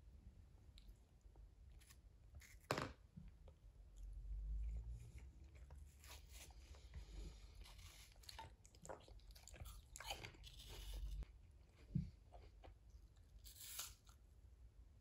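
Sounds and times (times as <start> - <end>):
person chewing and crunching food: 0.7 - 14.3.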